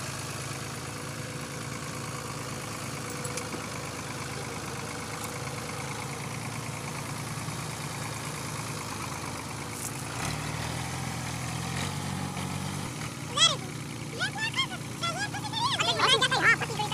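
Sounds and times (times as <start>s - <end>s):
diesel tractor engine under load: 0.0s - 16.9s.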